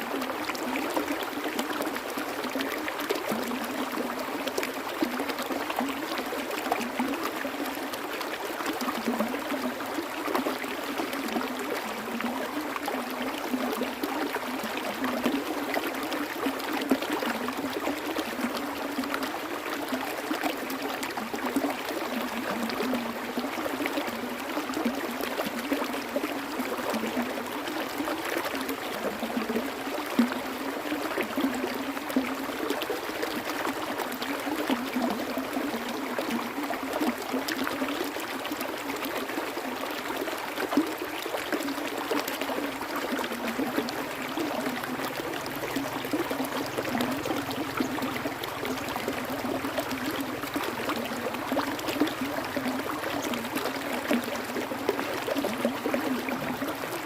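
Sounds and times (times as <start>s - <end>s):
stream water over stones: 0.0s - 57.0s.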